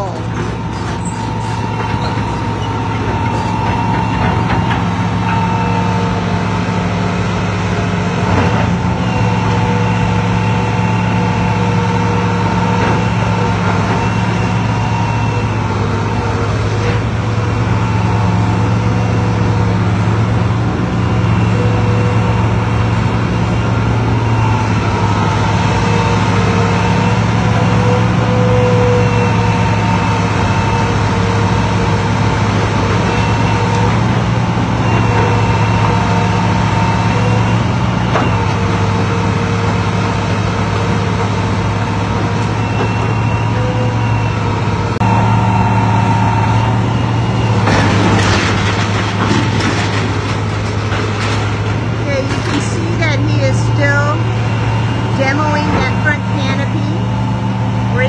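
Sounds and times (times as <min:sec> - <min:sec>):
excavator diesel engine running: 0:00.0 - 0:58.0
hydraulic whining tones: 0:00.0 - 0:58.0.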